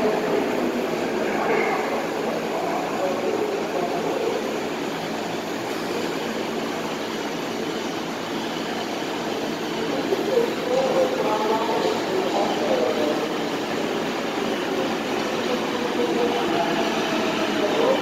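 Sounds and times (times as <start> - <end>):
murmur of crowd: 0.0 - 18.0
subway train approaching: 0.0 - 18.0.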